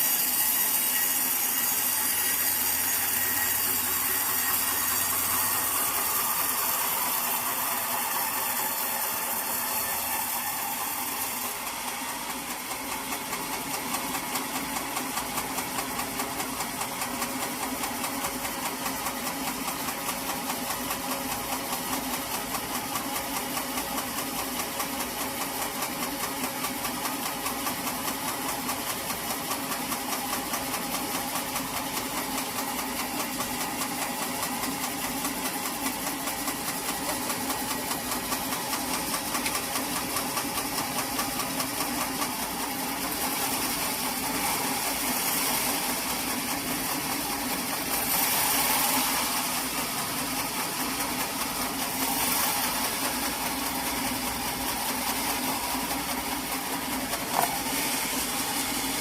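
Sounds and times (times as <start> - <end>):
engine-driven saw chugging: 0.0 - 59.0.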